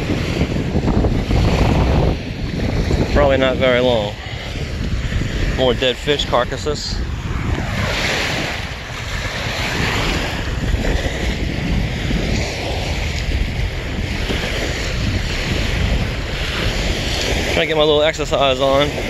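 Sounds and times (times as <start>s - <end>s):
small waves lapping on shore: 0.0s - 19.0s
wind rumble on microphone: 0.0s - 19.0s.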